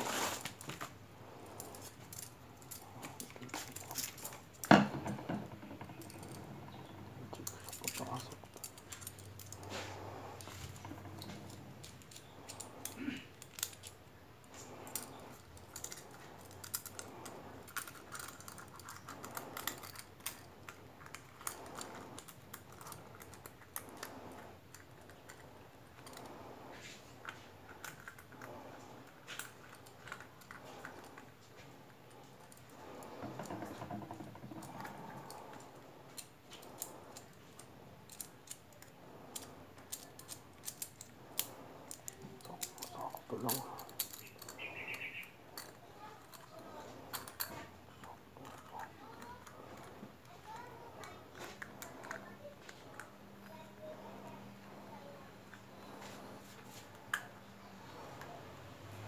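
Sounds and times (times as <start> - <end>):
rustling handling noise: 0.0 - 58.3.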